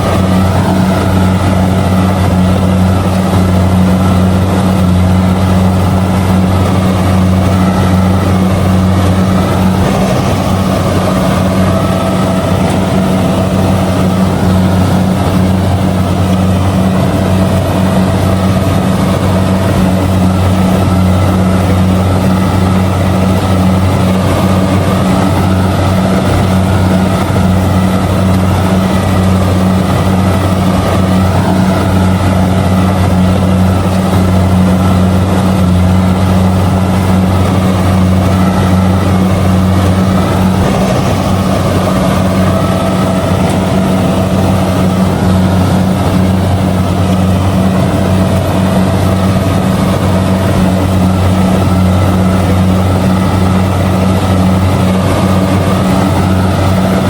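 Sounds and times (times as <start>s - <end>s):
combine harvester diesel engine running: 0.0s - 57.0s.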